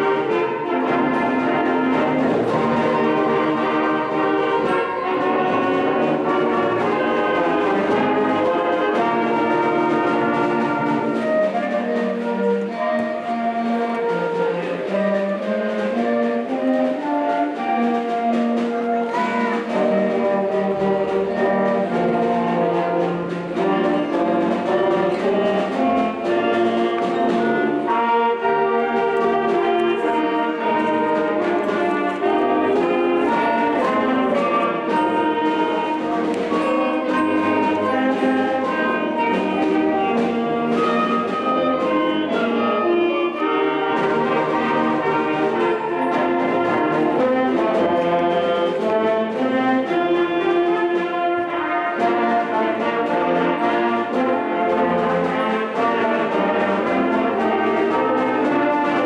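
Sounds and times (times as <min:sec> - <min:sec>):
brass ensemble music: 0:00.0 - 0:59.0.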